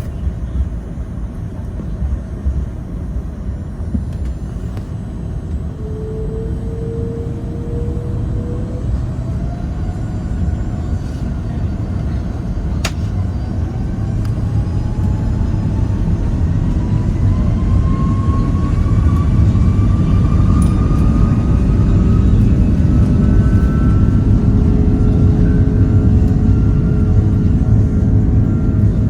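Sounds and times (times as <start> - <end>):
jet engines spooling up: 4.1 - 29.0.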